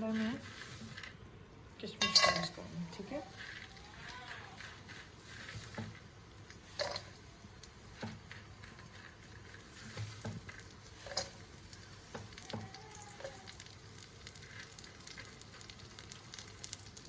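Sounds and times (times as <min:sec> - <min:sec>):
faint frying sizzle: 0:00.0 - 0:17.0.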